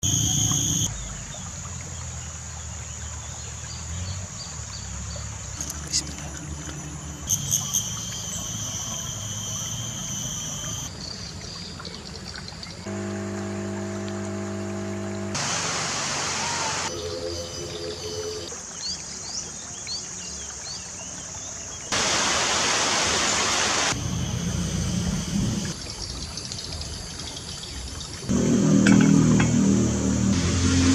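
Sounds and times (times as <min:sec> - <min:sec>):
rushing water: 0:00.3 - 0:17.2, 0:18.3 - 0:30.9.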